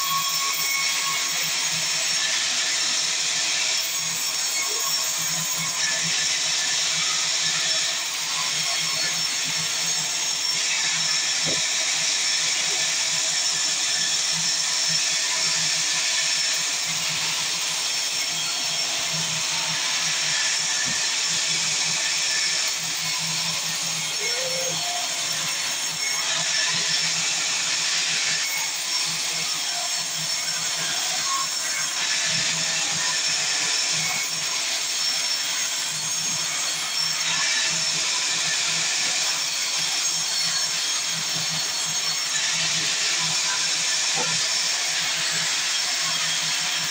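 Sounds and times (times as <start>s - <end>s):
saw cutting wood: 0.0s - 46.9s.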